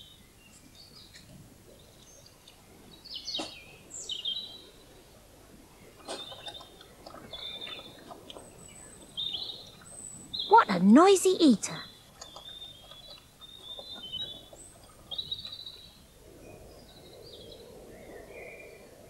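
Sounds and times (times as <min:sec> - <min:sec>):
birds chirping: 0:00.0 - 0:05.0, 0:05.8 - 0:18.8.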